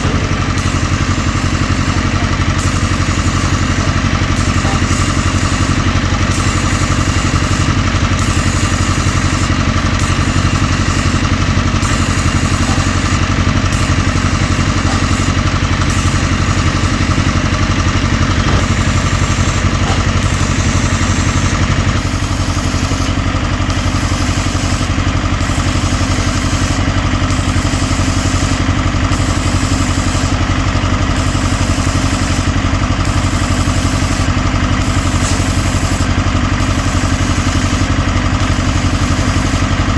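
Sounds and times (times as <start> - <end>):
engine running with clatter: 0.0 - 39.9.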